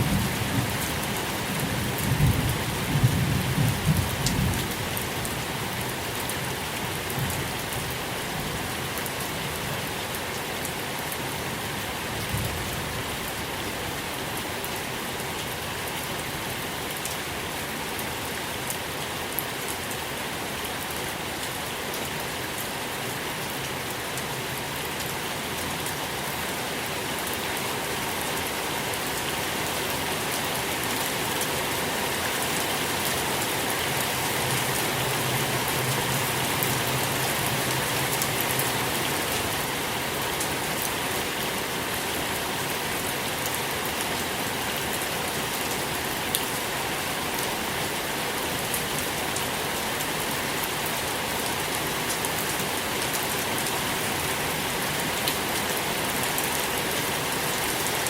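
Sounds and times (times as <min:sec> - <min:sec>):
rain pattering on a surface: 0:00.0 - 0:58.0.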